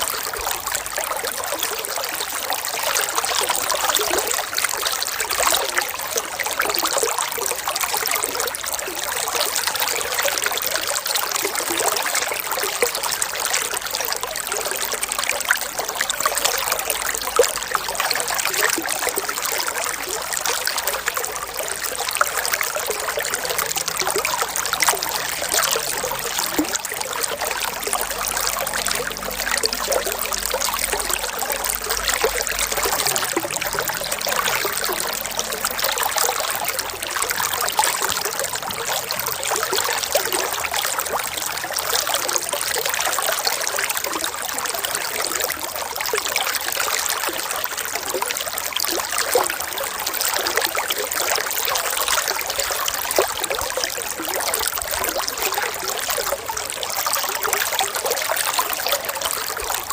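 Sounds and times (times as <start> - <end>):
water trickling and flowing: 0.0 - 59.9.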